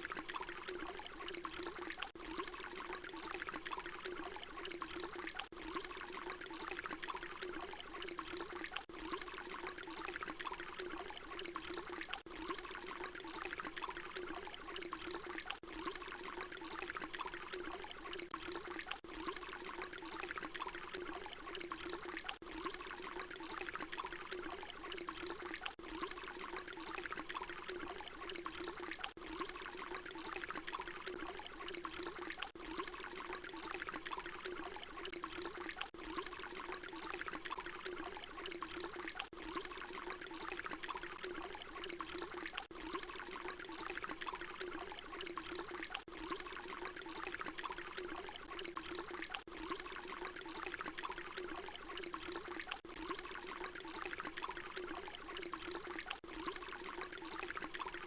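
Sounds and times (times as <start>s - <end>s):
water pouring in a stream: 0.0s - 58.0s.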